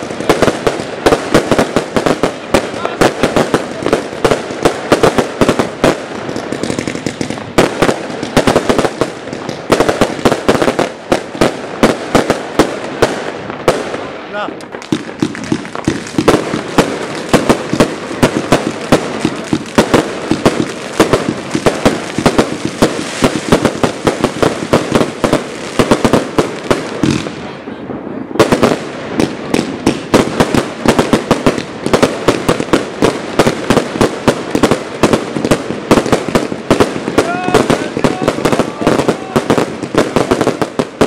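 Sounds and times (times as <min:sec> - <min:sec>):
fireworks banging rapidly: 0:00.0 - 0:41.0.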